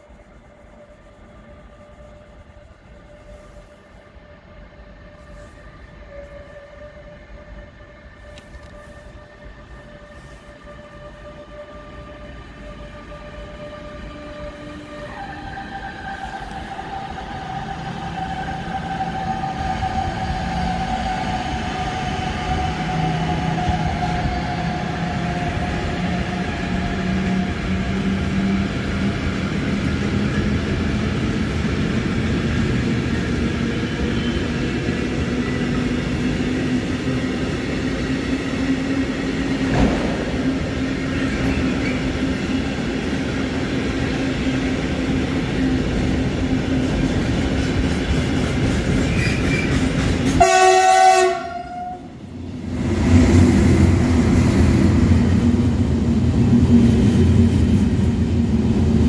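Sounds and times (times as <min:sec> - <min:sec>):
electric locomotive whine: 0:00.0 - 0:59.0
train wagons rumbling past: 0:04.3 - 0:59.0.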